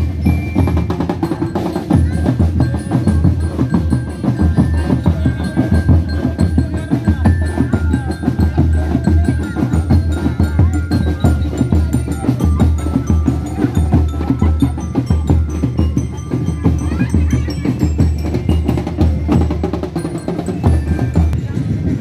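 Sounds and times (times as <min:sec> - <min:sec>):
drum band playing fast rhythm: 0:00.0 - 0:22.0.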